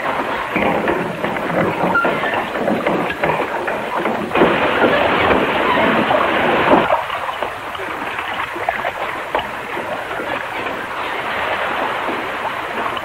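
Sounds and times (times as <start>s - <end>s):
water splashing at water wheel: 0.0s - 13.0s.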